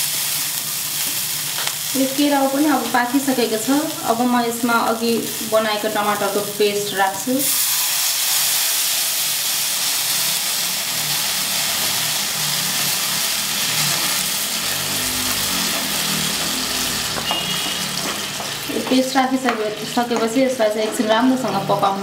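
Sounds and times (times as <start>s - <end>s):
sizzling hiss in frying pan: 0.0s - 20.7s.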